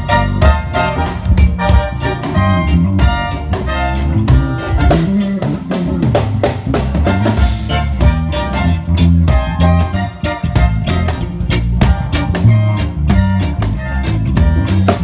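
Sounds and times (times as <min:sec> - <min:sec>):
drum kit beat: 0:00.0 - 0:15.0
gospel band playing: 0:00.0 - 0:15.0.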